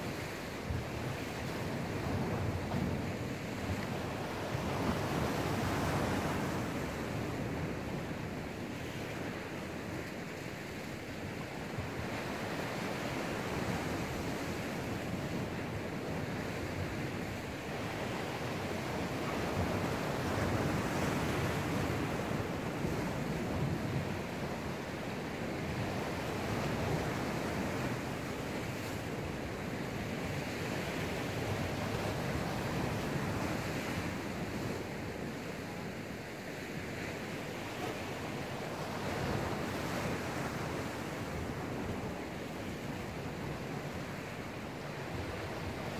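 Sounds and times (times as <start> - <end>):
waves washing on rocky shore: 0.0 - 45.9
wind on microphone: 0.0 - 45.9.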